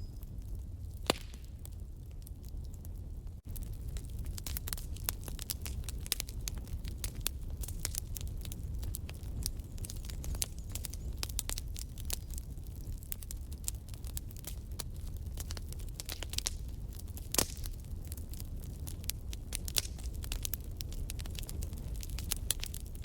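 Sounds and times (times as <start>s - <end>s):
fire low rumble: 0.0s - 23.0s
wood fire crackling and popping: 0.0s - 23.0s.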